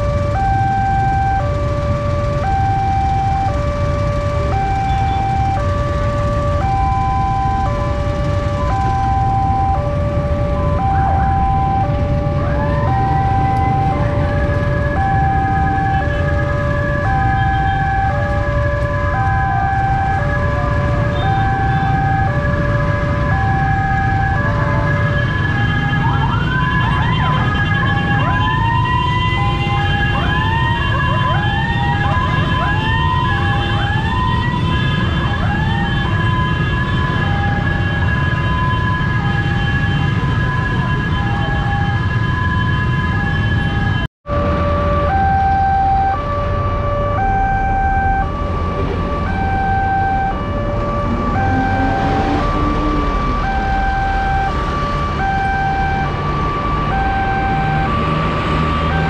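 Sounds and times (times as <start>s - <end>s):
ambulance siren: 0.0s - 59.0s.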